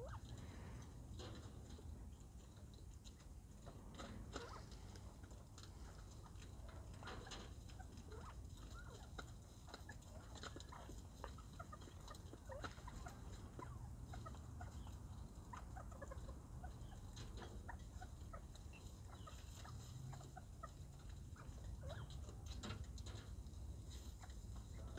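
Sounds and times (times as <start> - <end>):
quail chirping and clucking: 0.0 - 24.9.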